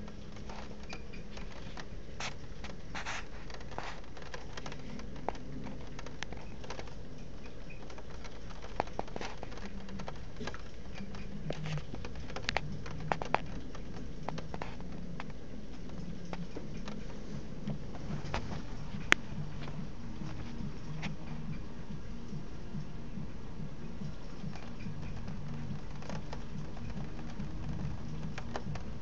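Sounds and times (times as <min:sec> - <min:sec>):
rain falling steadily: 0:00.0 - 0:29.0
raindrops ticking on a surface: 0:00.0 - 0:29.0.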